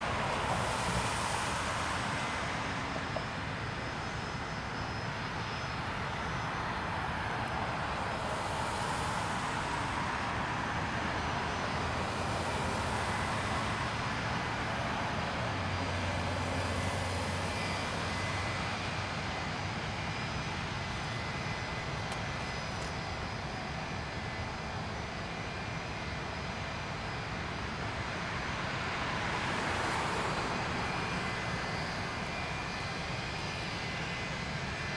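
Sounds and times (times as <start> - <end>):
jet engine roar: 0.0 - 34.9.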